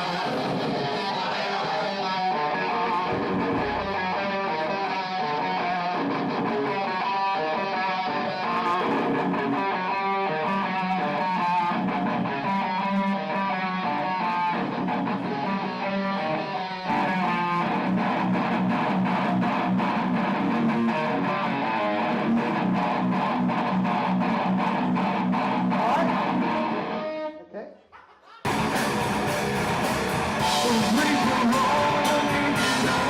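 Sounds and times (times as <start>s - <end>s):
electric guitar heavy metal riff: 0.0s - 27.4s, 28.5s - 33.0s.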